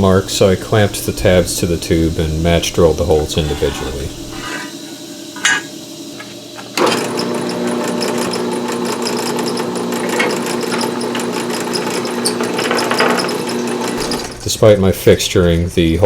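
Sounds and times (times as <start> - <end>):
drill drilling through steel: 0.0 - 14.5.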